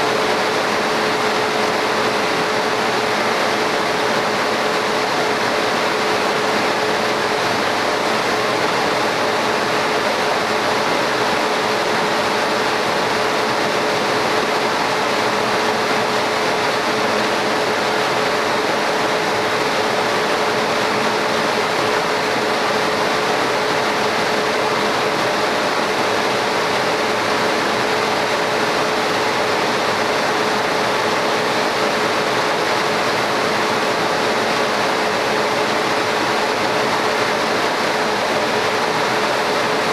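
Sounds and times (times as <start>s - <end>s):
constant machine hum: 0.0s - 39.9s
rushing whir of fans: 0.0s - 39.9s.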